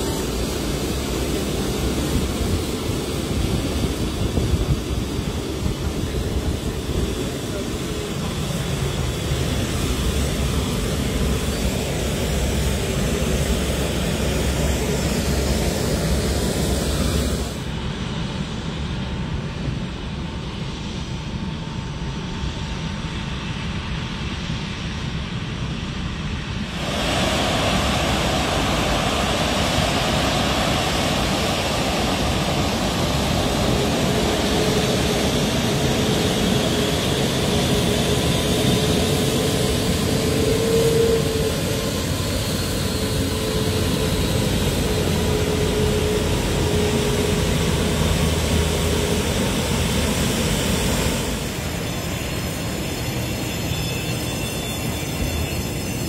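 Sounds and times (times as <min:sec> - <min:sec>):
jet engines rumble and whine: 0:00.0 - 0:56.0.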